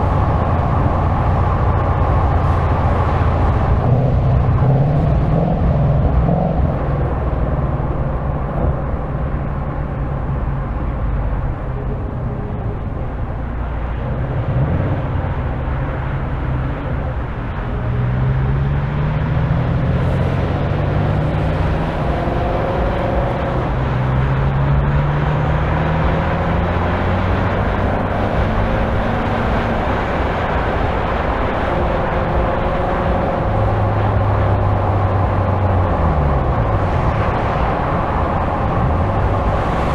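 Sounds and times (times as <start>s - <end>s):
car engine running while driving: 0.0s - 39.9s
road and wind noise: 0.0s - 39.9s.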